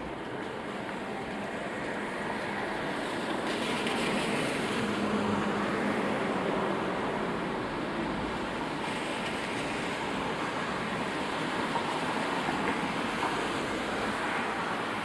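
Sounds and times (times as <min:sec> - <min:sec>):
city traffic on wet streets: 0:00.0 - 0:15.0
rain: 0:00.0 - 0:15.0.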